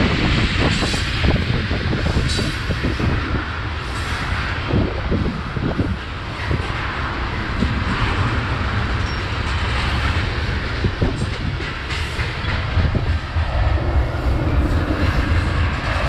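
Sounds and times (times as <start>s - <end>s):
freight train cars rolling: 0.0s - 16.0s.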